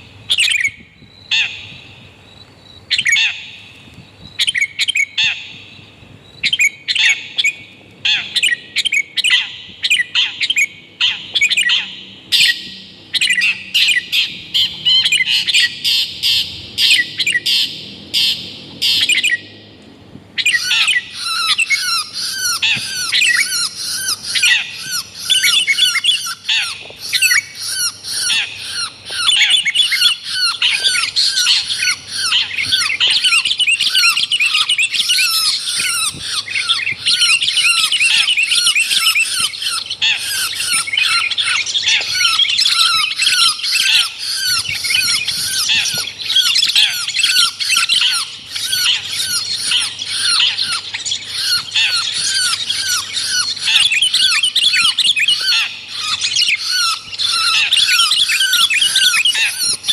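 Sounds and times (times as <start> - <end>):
harsh bird calls: 0.0 - 59.9
bird chattering: 6.4 - 19.5, 20.4 - 59.9.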